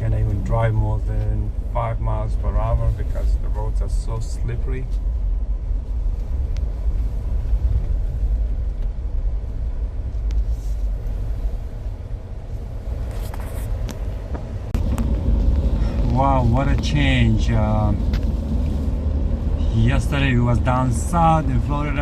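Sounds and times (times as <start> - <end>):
car driving on snowy road: 0.0 - 22.0.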